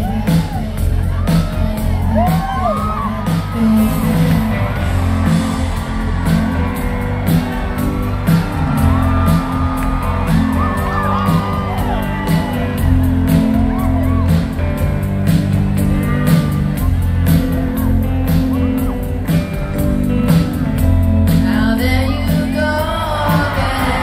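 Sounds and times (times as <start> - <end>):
driving bass line: 0.0 - 24.0
live rock band playing: 0.0 - 24.0.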